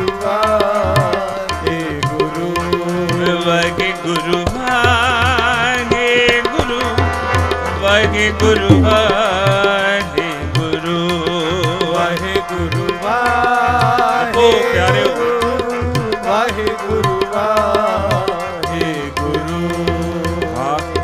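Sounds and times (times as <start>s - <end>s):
harmonium: 0.0s - 21.0s
man singing: 0.0s - 21.0s
tabla: 0.0s - 21.0s.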